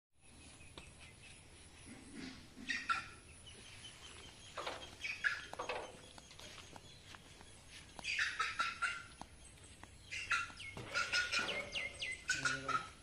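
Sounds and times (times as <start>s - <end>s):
birds calling: 0.2s - 13.0s.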